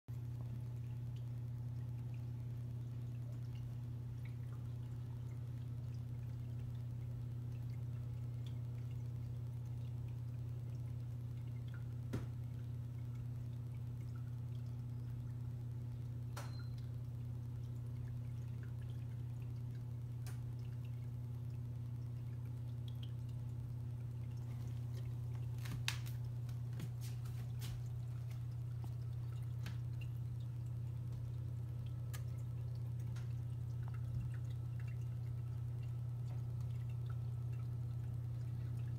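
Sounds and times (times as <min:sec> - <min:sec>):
aquarium low hum: 0:00.1 - 0:38.9
water trickling and dripping: 0:00.1 - 0:38.9.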